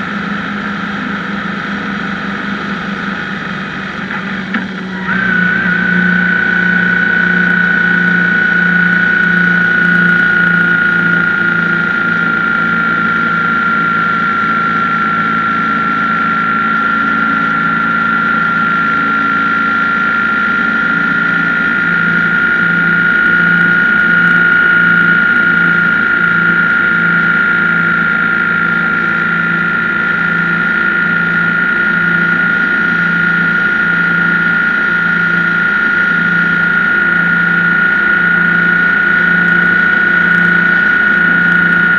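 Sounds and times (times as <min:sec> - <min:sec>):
high-pitched whine: 0:00.0 - 0:41.9
motorcycle engine pulsing: 0:00.0 - 0:41.9.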